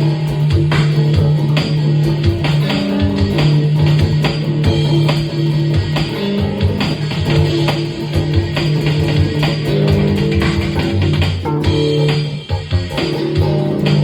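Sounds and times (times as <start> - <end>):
drum hits: 0.0 - 14.0
guitar sustained notes: 0.0 - 14.0.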